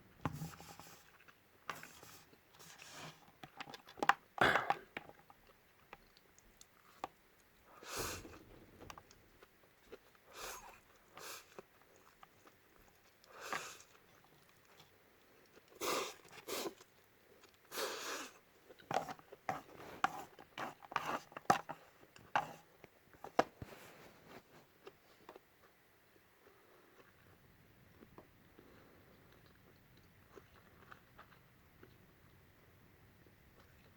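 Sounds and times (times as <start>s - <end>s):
chewing noodles: 0.4s - 23.4s, 24.6s - 33.9s.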